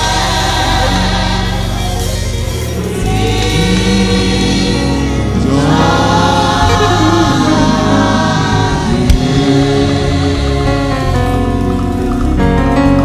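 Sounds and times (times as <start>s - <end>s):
women's choir singing a hymn: 0.0s - 11.9s.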